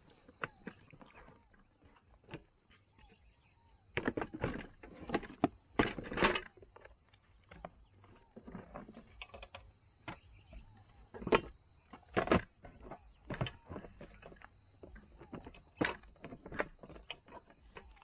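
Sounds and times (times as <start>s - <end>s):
objects knocking and rustling: 0.1s - 18.0s.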